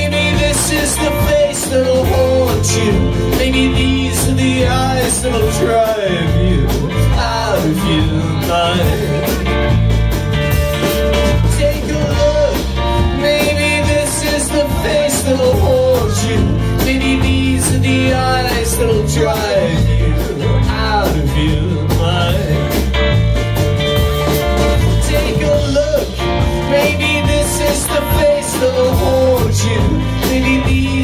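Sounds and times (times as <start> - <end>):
bending lead guitar melody: 0.0 - 31.0
live rock band: 0.0 - 31.0.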